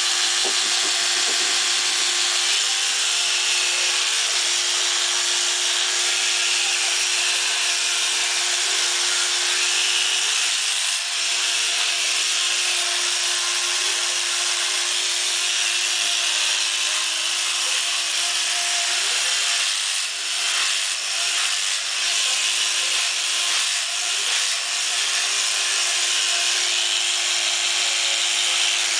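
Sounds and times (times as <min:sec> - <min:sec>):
electric clippers buzzing: 0:00.0 - 0:28.9.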